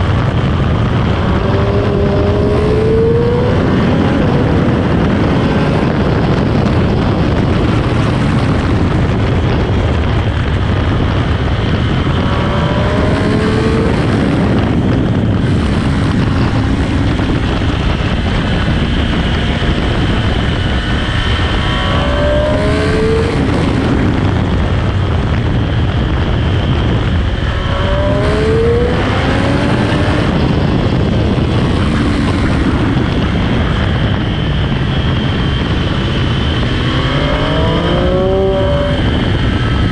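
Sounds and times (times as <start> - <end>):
motorcycle engine accelerating: 0.0 - 39.9
wind rushing: 0.0 - 39.9.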